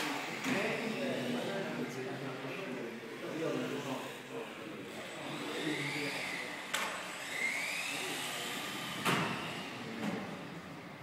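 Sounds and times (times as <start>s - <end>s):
electric motor whining: 0.0s - 10.9s.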